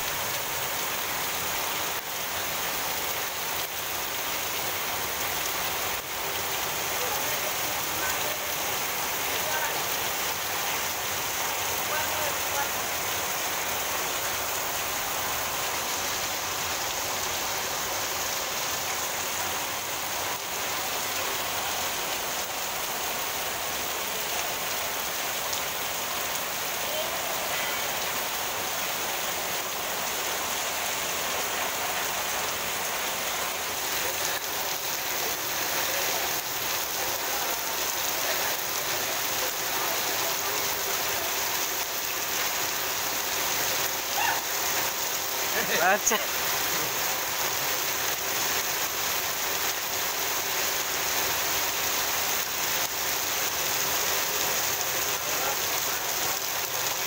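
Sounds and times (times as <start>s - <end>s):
heavy rain on roofs and street: 0.0s - 57.0s.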